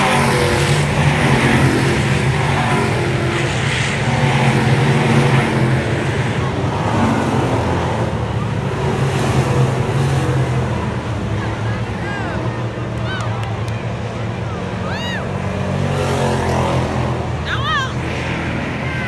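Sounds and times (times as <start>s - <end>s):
stock car engine running: 0.0s - 19.0s.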